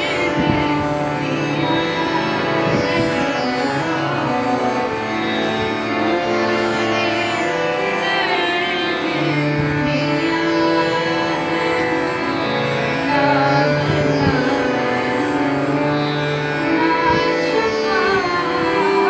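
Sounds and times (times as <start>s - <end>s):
harmonium sustained notes: 0.0s - 19.0s
woman singing: 0.0s - 19.0s.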